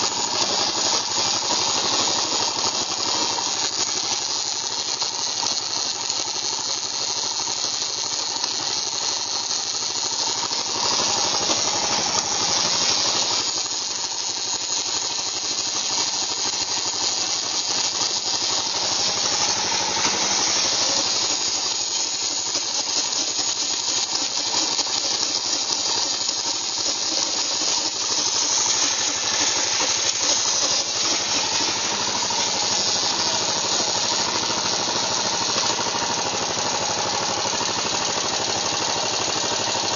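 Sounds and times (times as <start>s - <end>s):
gearbox grinding: 0.0s - 39.9s
motorcycle engine running: 0.0s - 39.9s.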